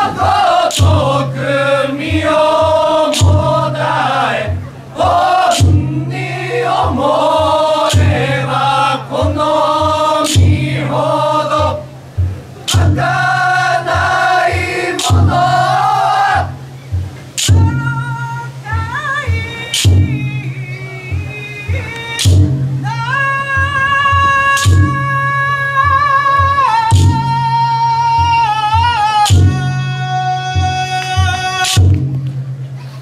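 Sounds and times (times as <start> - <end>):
men singing in unison: 0.0 - 12.0, 12.6 - 16.6, 17.4 - 31.9
steady low beat: 0.0 - 33.0.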